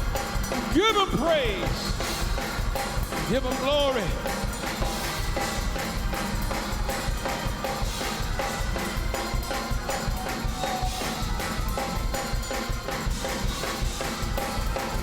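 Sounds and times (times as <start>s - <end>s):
drums beating: 0.0s - 15.0s
fast gospel music: 0.0s - 15.0s.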